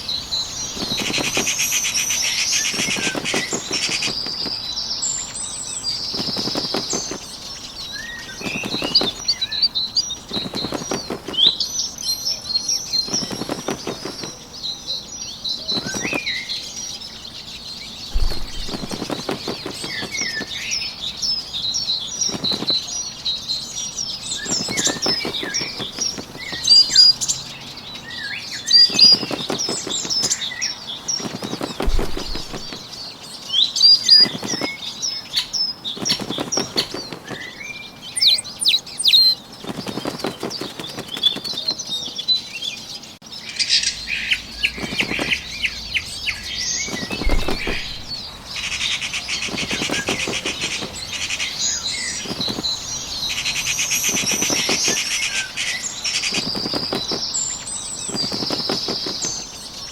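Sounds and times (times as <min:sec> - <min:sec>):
bird wings flapping: 0:00.0 - 0:14.7, 0:15.6 - 0:33.1, 0:33.8 - 0:42.2, 0:44.5 - 0:59.9
small birds chirping: 0:00.0 - 0:59.9.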